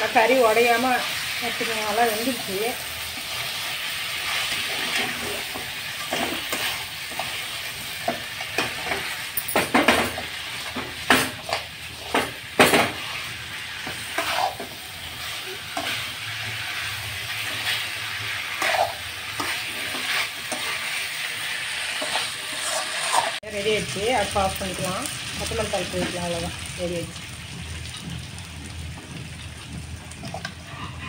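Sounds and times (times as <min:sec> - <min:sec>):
chicken sizzling in pan: 0:00.0 - 0:31.0.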